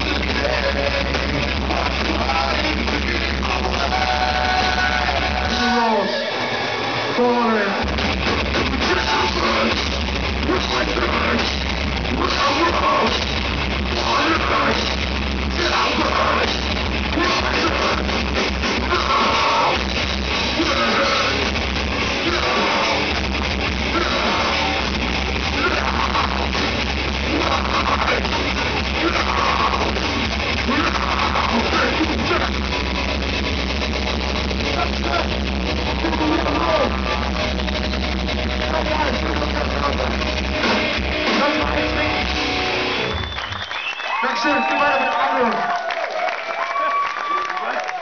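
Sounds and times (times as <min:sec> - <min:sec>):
harsh yelled vocals: 0:00.0 - 0:33.4, 0:34.2 - 0:43.2, 0:44.0 - 0:48.0
metal band playing live: 0:00.0 - 0:43.4.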